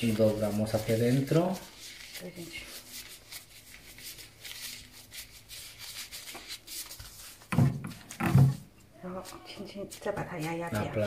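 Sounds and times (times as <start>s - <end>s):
gloved hands rubbing dough: 0.0s - 11.0s.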